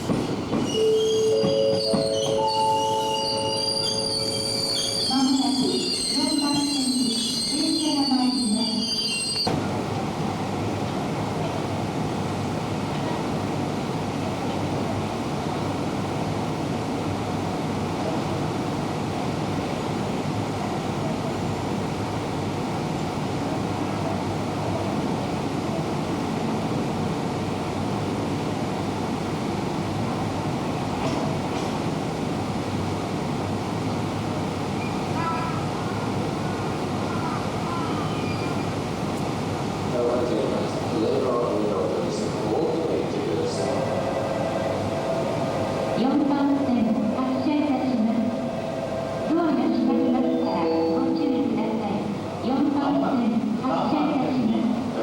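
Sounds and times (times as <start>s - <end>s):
electric trains rumbling: 0.0s - 55.0s.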